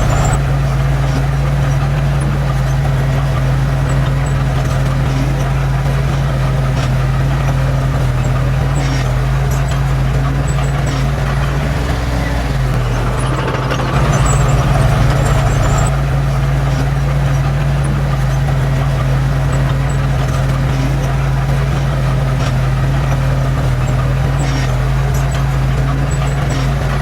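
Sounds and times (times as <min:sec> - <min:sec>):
heavy machinery diesel engine: 0:00.0 - 0:27.0.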